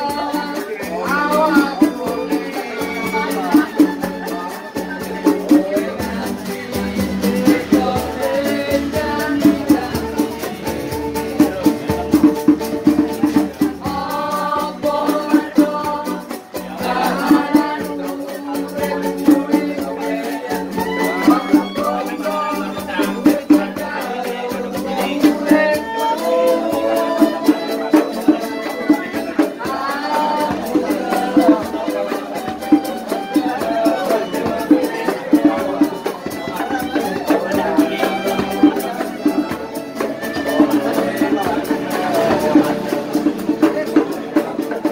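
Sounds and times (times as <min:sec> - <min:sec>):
instrumental accompaniment: 0:00.0 - 0:44.9
person singing: 0:00.0 - 0:44.9.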